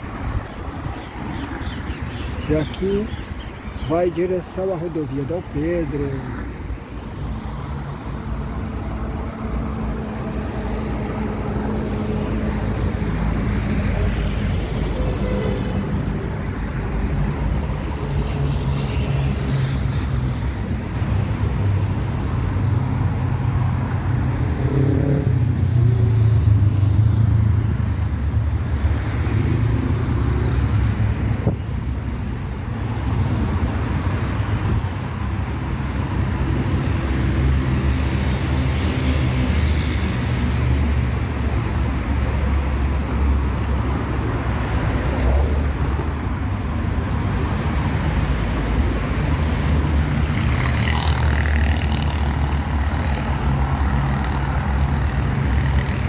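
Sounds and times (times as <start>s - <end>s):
cars and motorcycles passing: 0.0s - 56.0s.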